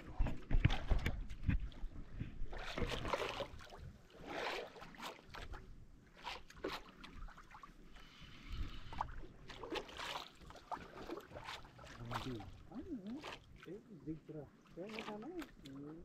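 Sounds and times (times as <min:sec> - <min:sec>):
water splashing against boat hull: 0:00.0 - 0:07.8, 0:08.8 - 0:16.0.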